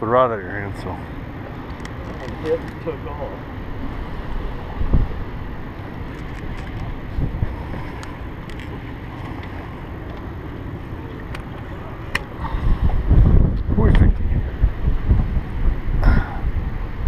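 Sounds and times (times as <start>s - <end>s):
river water washing around boat: 0.0s - 17.0s
wind rumbling on microphone: 0.6s - 17.0s.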